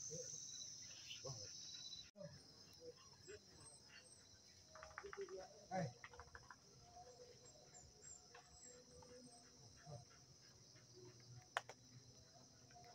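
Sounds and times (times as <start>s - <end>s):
faint bird chirps: 0.0s - 11.2s
faint insect drone: 0.0s - 12.9s.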